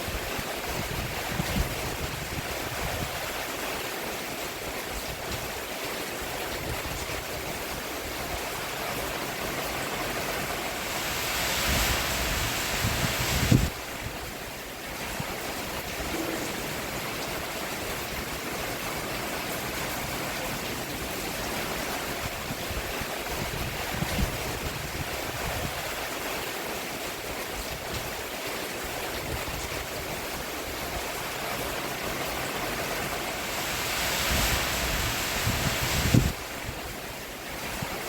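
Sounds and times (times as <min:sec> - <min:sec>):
rain on a roof: 0:00.0 - 0:38.0.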